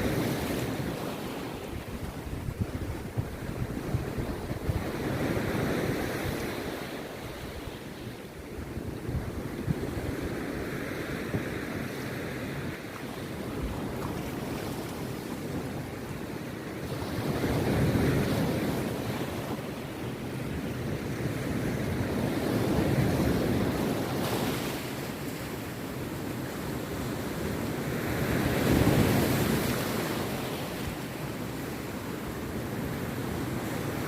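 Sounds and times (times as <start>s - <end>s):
sea waves breaking on beach: 0.0s - 34.0s.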